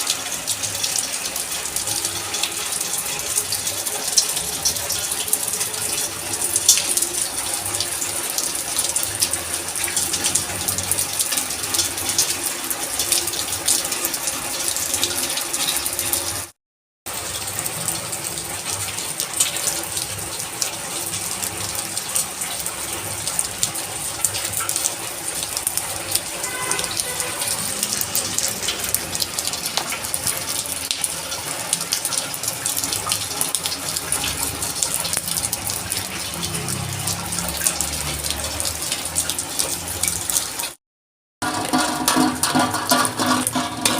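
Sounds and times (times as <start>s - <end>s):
heavy rain on hard surfaces: 0.0s - 40.8s, 41.4s - 43.9s.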